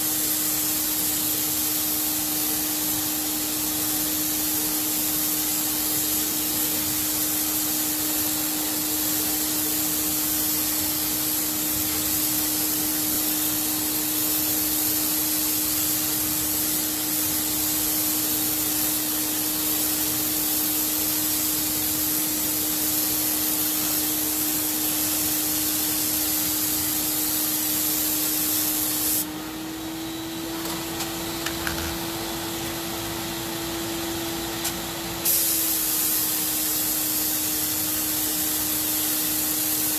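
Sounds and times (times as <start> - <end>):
spray gun hissing: 0.0 - 31.4, 32.0 - 39.9
paint sprayer turbine hum: 0.0 - 39.9.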